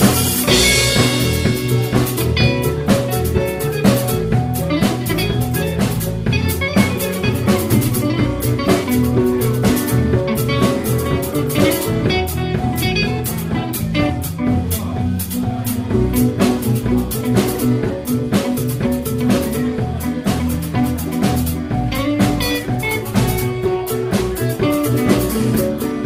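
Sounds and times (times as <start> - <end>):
drum hits: 0.0 - 26.0
live band playing: 0.0 - 26.0.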